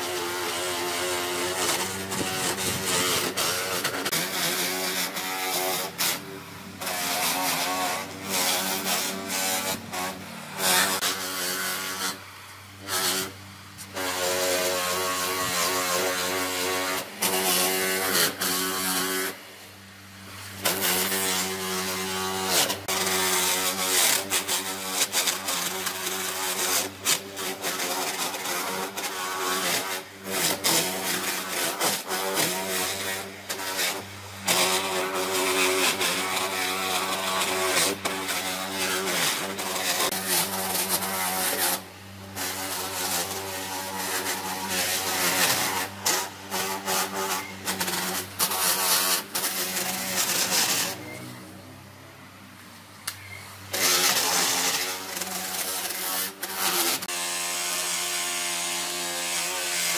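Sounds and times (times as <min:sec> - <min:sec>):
power tool motor running: 0:00.0 - 0:51.6, 0:53.4 - 0:59.9.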